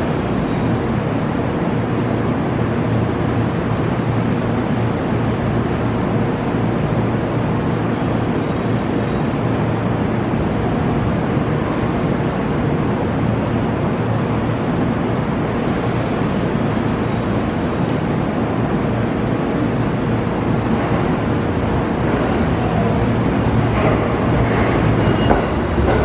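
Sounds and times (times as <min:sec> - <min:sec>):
electric train rumble and hiss: 0:00.0 - 0:26.0.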